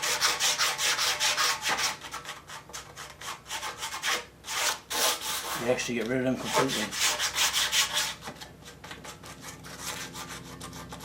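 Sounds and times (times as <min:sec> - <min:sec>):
sandpaper scraping body filler: 0:00.0 - 0:11.0.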